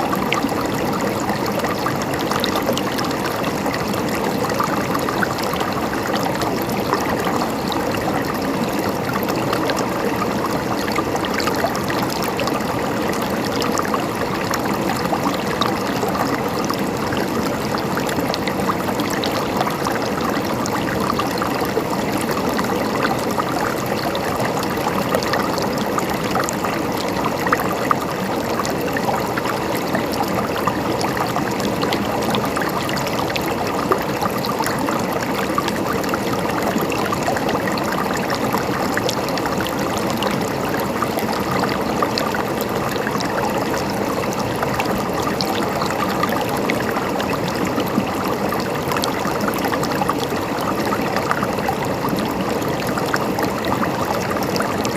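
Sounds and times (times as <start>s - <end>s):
water flowing and trickling: 0.0s - 54.9s.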